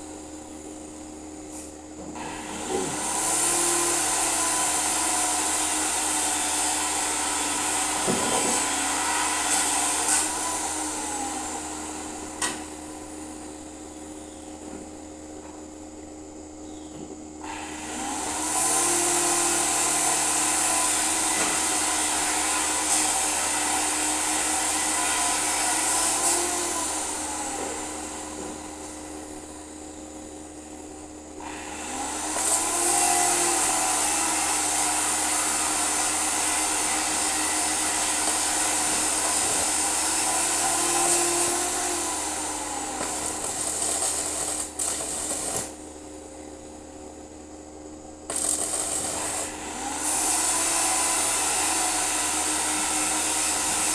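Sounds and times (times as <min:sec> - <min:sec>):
electric power tool running: 0:00.0 - 0:14.4, 0:17.4 - 0:53.9.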